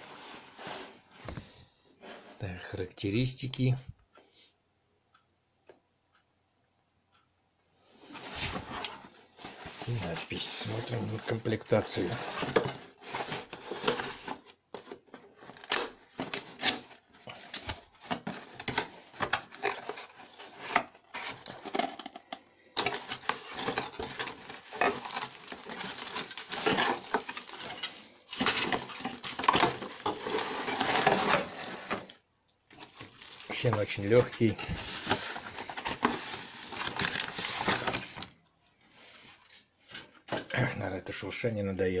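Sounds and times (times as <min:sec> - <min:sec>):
cardboard and plastic packaging rustling: 0:00.0 - 0:02.4, 0:08.0 - 0:41.0.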